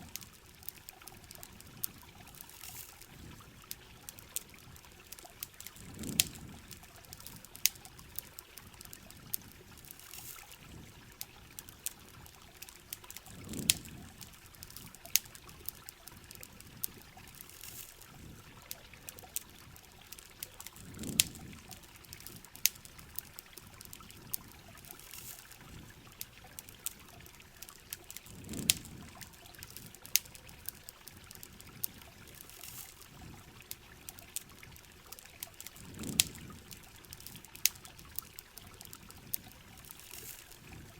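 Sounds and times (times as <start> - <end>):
low whoosh of water: 0.0 - 12.4, 13.0 - 40.9
campfire crackling and popping: 0.0 - 40.9
steady rain hiss: 0.0 - 40.9
water trickling and dripping: 0.0 - 40.9.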